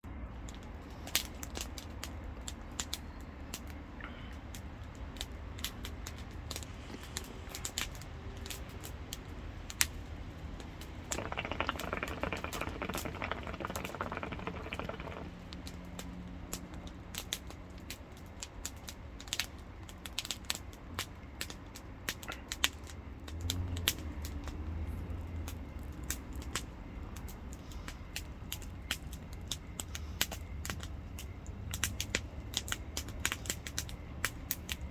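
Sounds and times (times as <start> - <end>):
campfire crackling: 0.0 - 34.9
sharp pops of fire: 0.1 - 34.9.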